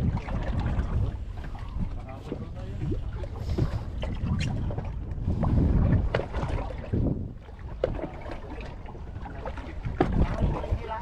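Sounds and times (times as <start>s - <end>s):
water slapping against boat hull: 0.0s - 11.0s
wind rumbling on microphone: 0.0s - 11.0s.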